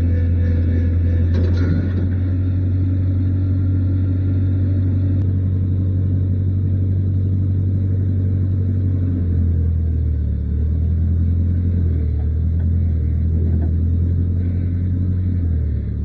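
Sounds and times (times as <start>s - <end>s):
engine droning steadily: 0.0s - 16.0s.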